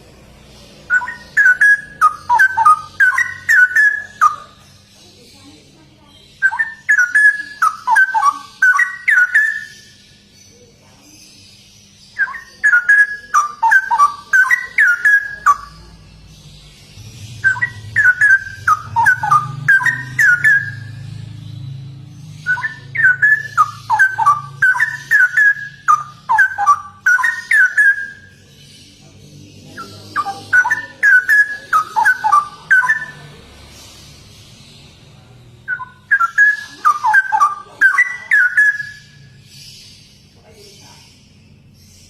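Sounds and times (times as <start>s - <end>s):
bird singing rapid whistled notes: 0.0s - 42.0s.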